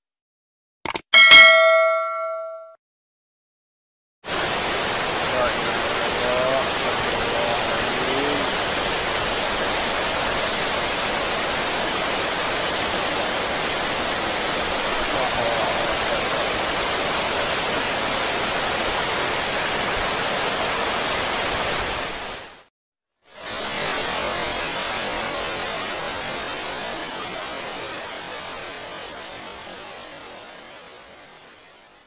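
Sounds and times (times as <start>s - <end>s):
floodwater rushing: 4.3s - 22.6s, 23.4s - 31.5s.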